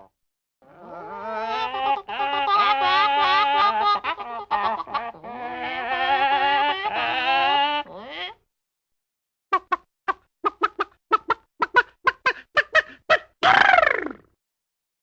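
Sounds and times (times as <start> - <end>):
cartoon chicken squawks: 0.7 - 8.4, 9.5 - 14.2.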